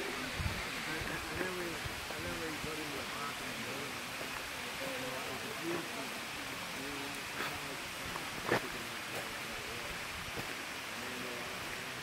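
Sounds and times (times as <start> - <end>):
faint distant voices: 0.0 - 12.0
waterfall rushing: 0.0 - 12.0.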